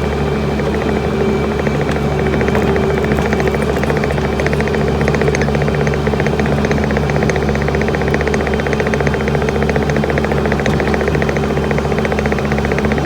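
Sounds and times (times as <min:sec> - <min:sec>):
skid loader engine running: 0:00.0 - 0:13.0.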